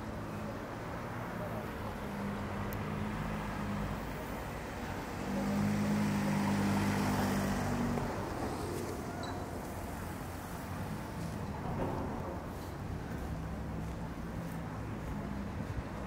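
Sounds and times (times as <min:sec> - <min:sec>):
traffic noise: 0:00.0 - 0:16.0
vehicle engine hum: 0:00.0 - 0:16.0.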